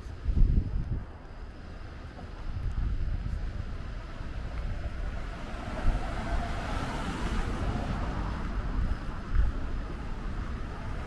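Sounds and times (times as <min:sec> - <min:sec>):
car passing with tyre hiss: 0:00.0 - 0:11.0
wind buffeting microphone: 0:00.0 - 0:11.0.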